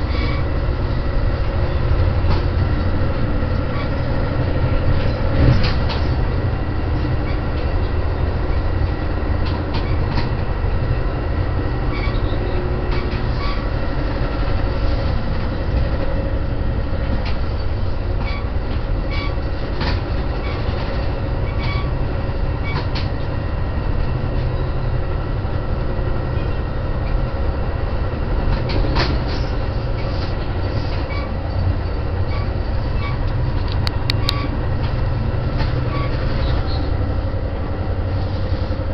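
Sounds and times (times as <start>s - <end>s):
train interior low noise: 0.0s - 38.9s.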